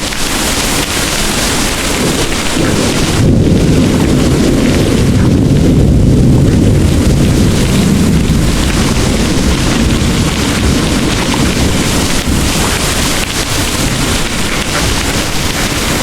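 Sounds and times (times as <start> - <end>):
heavy rain pouring: 0.0 - 16.0
low rumble of thunder: 0.0 - 16.0.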